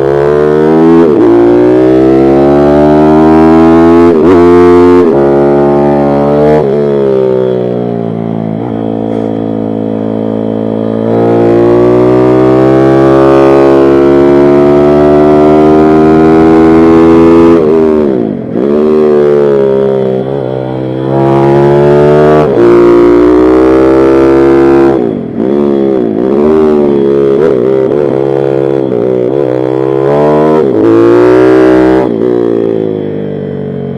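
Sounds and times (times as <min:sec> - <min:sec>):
pit bike engine revving high: 0:00.0 - 0:32.9.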